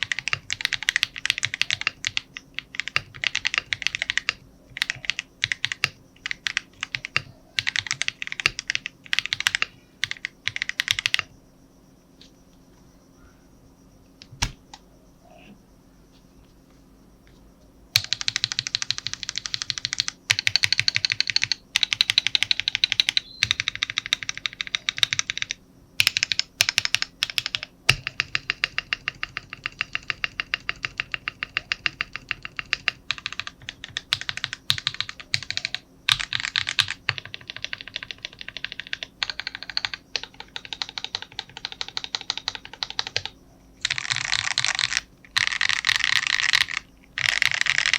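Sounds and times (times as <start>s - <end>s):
fast mechanical keyboard typing: 0.0s - 11.3s, 17.9s - 47.9s.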